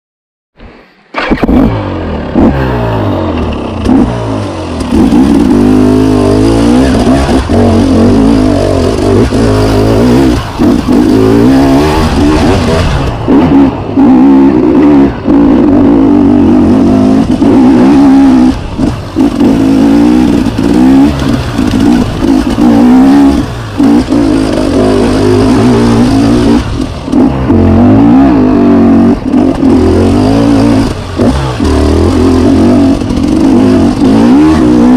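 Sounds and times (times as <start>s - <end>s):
dirt bike engine revving: 1.1s - 34.9s.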